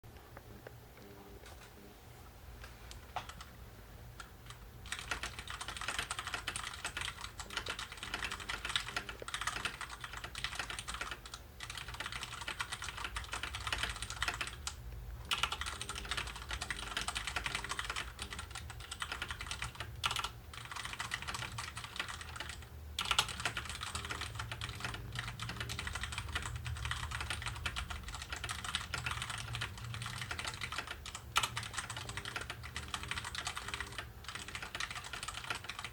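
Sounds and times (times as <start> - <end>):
mechanical keyboard typing: 3.2 - 3.5, 4.2 - 35.9.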